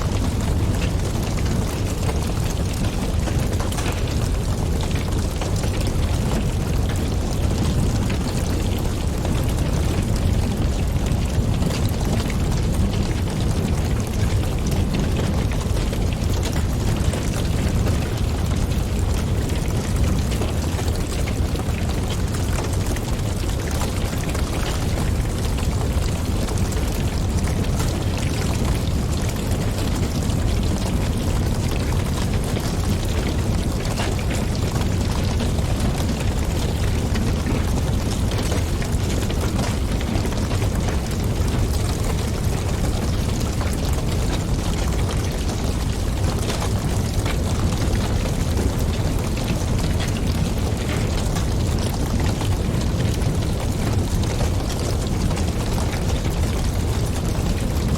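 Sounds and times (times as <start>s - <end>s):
wind: 0.0s - 57.9s
fire crackling and popping: 0.1s - 57.9s.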